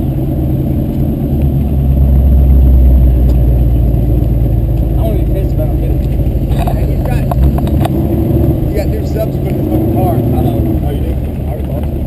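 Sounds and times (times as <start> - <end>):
large engine idling: 0.0 - 12.0.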